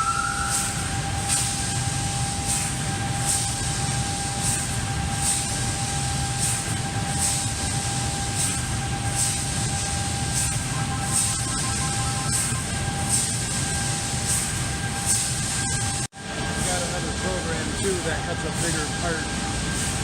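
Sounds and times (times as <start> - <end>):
laser cutter machine hum: 0.0 - 20.0.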